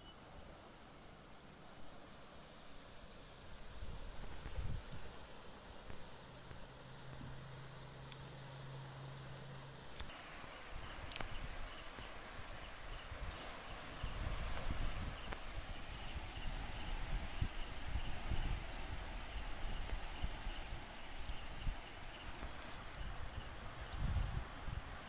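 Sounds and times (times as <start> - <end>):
insects chirring: 0.0 - 25.0
low outdoor wash: 0.1 - 25.0.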